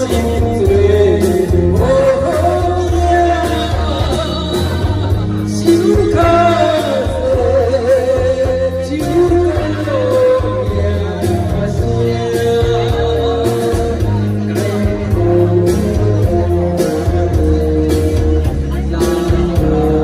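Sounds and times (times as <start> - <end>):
backing music with bass: 0.0 - 20.0
person singing: 0.0 - 20.0.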